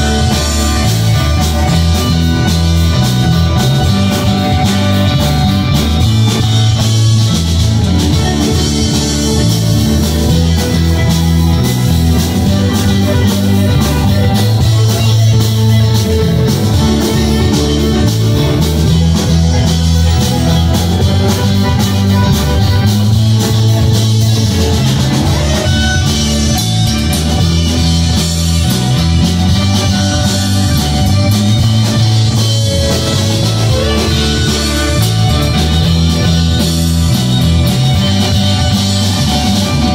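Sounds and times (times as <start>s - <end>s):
bass line: 0.0s - 39.9s
drum kit: 0.0s - 39.9s
electric guitars: 0.0s - 39.9s.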